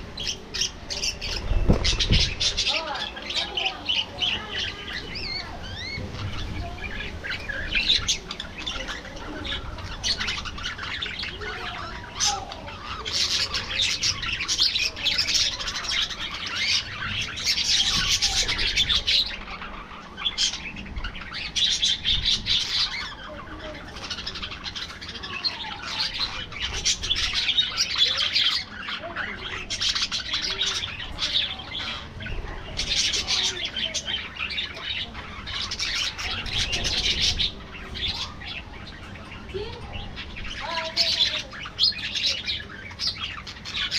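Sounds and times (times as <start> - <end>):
budgerigars chattering and warbling: 0.0 - 43.9.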